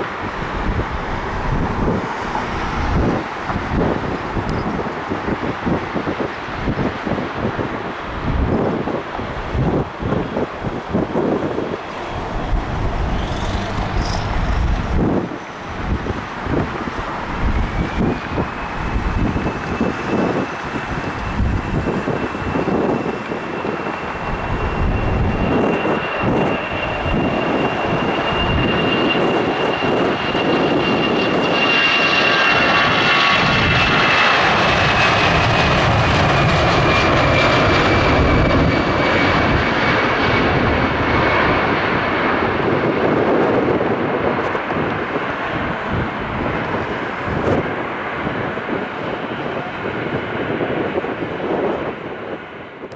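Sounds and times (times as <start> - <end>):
jet engine roar with fan whine: 0.0 - 52.9
wind buffeting microphone: 0.0 - 52.9.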